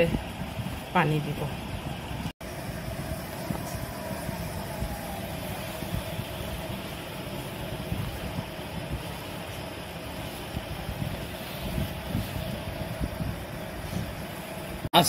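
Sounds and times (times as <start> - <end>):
motor hum: 0.0 - 14.9.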